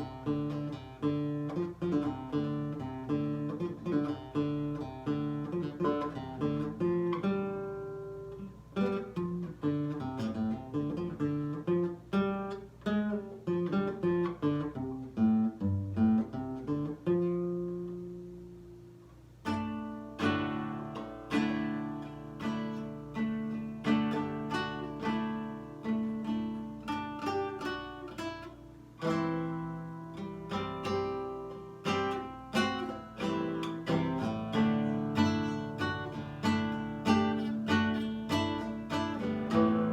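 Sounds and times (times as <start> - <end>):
nylon-string guitar playing: 0.0 - 39.9.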